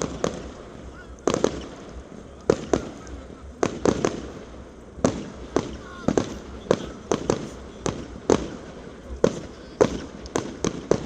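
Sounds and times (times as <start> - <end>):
fireworks sharp bangs: 0.0 - 11.0.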